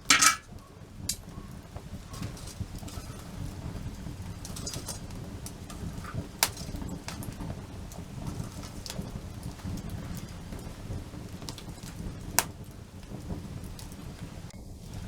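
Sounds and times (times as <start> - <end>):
campfire crackling: 0.0 - 15.0
low fire rumble: 0.0 - 15.0
sharp fire pops: 0.0 - 15.0.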